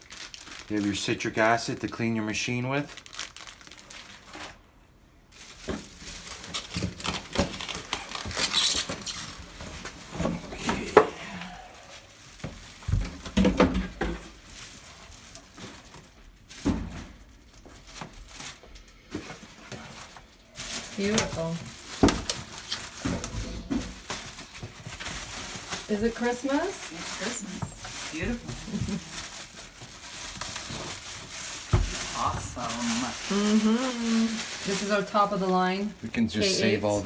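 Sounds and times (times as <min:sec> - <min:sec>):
plastic packaging crinkling: 0:00.0 - 0:04.6, 0:05.3 - 0:36.4.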